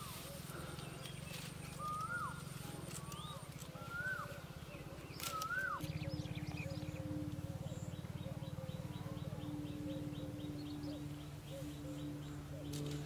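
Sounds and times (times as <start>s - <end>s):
birds calling: 0.0s - 13.0s
low steady hum: 0.0s - 13.0s.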